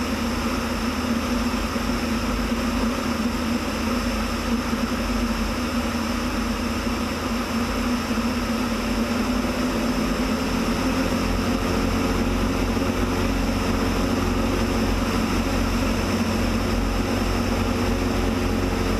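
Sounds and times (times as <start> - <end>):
propeller airplane engine running: 0.0 - 18.9.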